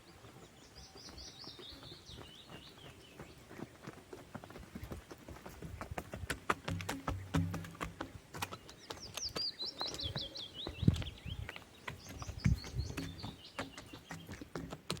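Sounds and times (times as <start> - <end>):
horse hooves clicking and thudding: 0.0 - 15.0
songbird singing: 0.0 - 15.0.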